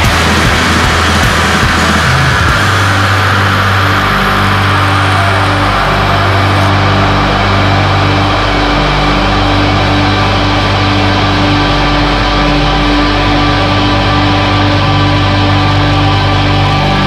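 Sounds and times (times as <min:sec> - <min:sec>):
distorted guitars holding a chord: 0:00.0 - 0:17.0
low drone: 0:00.0 - 0:17.0.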